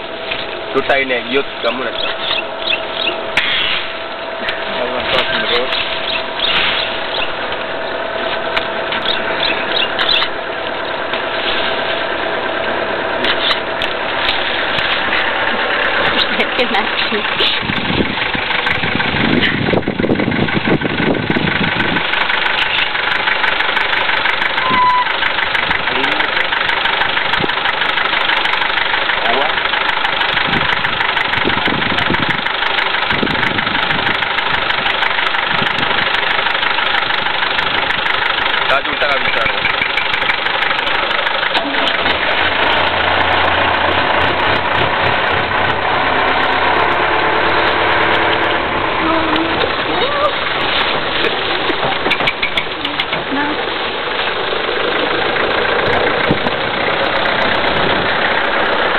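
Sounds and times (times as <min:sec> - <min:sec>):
low pulsing rumble: 0:00.0 - 0:58.9
vehicle engine idling: 0:00.0 - 0:58.9.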